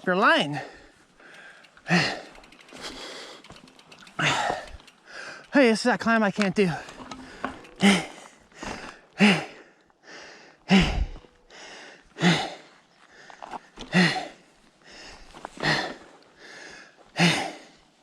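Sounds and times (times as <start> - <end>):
quiet breaths in: 0.6 - 5.5, 6.9 - 17.9.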